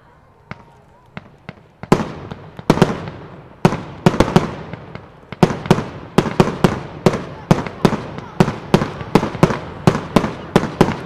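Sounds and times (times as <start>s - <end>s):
faint fireworks pops: 0.3s - 11.0s
fireworks bangs echoing: 0.4s - 11.0s.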